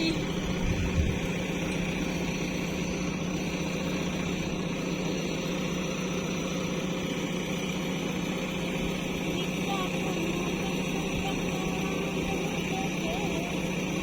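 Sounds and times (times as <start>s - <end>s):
diesel engine humming steadily: 0.0s - 14.0s.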